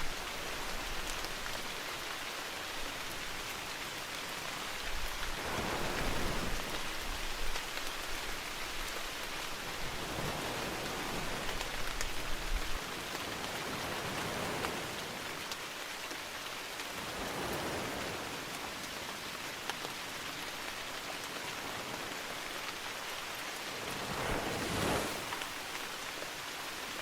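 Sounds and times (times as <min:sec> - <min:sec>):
steady rain in forest: 0:00.0 - 0:27.0.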